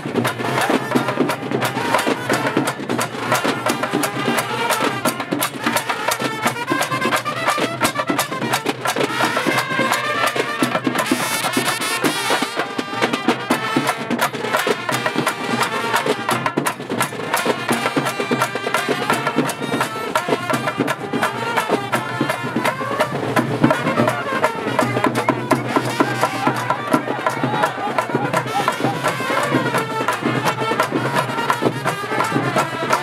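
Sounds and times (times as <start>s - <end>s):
barrel drums drumming: 0.0s - 33.0s
trumpets playing melody: 0.0s - 33.0s.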